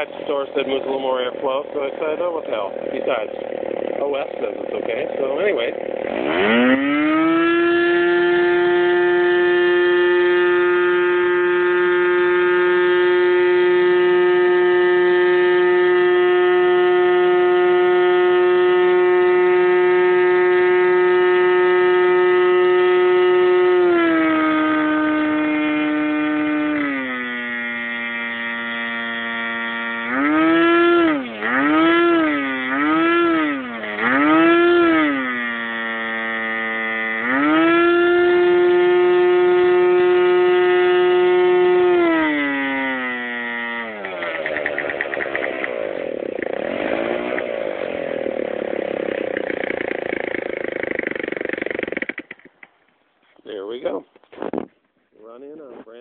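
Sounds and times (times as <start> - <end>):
model airplane engine droning: 0.0 - 52.6.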